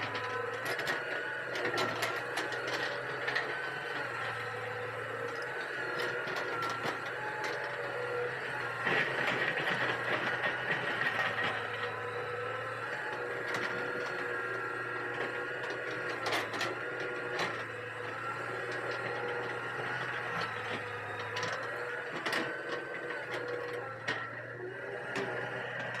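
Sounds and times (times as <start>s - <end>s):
diesel engine hum: 0.0s - 26.0s
hydraulic whine: 0.0s - 26.0s.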